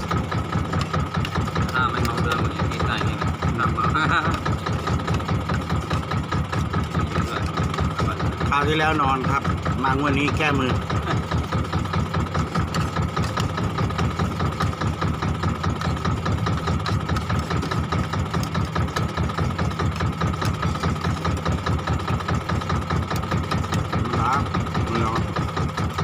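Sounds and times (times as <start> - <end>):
boat engine chugging: 0.0 - 26.0.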